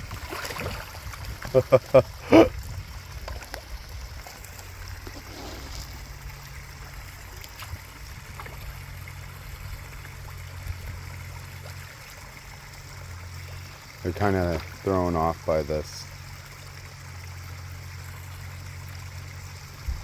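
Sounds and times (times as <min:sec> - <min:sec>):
waterfall trickling and splashing: 0:00.0 - 0:20.0.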